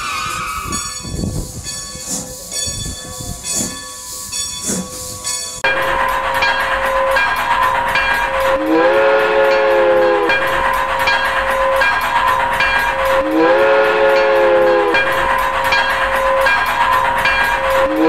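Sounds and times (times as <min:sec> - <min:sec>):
steam locomotive chuffing: 0:00.0 - 0:18.0
train chime whistle: 0:00.0 - 0:18.0.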